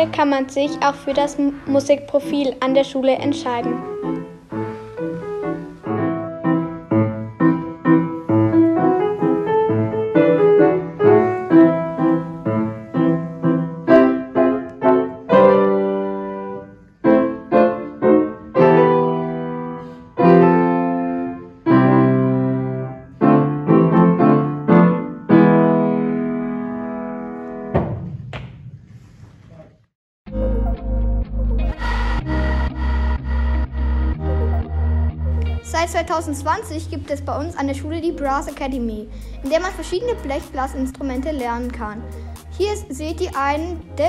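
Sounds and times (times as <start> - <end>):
upright piano playing: 0.0 - 27.7, 30.3 - 44.0.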